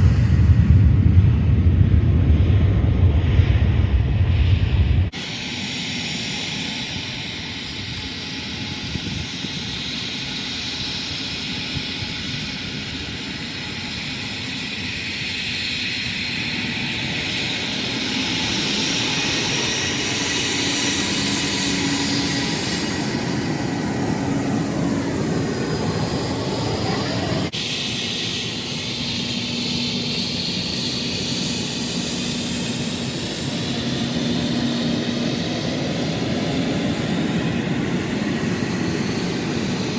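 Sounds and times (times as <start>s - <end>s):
airliner engines roaring: 0.0s - 39.9s.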